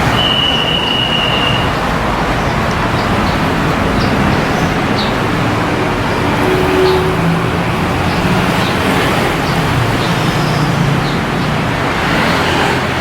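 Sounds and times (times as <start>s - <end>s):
tyre and road rumble: 0.0s - 13.0s.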